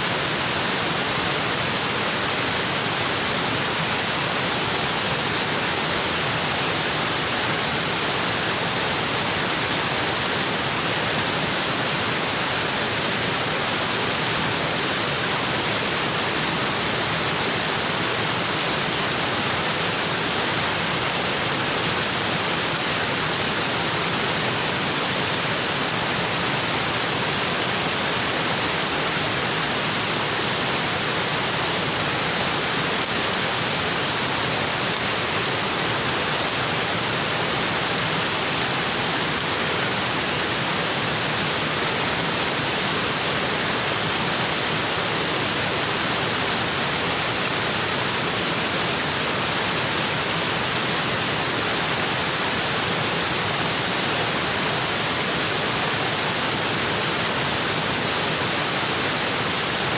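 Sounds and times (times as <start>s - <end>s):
waterfall onto rocks: 0.0s - 59.9s.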